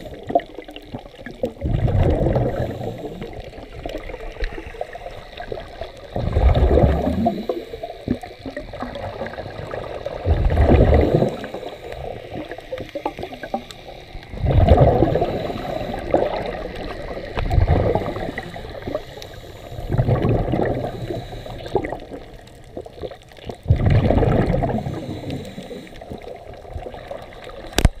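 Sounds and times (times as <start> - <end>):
regulator exhaust bubbles underwater: 0.0 - 28.0
steady underwater hiss: 0.0 - 28.0.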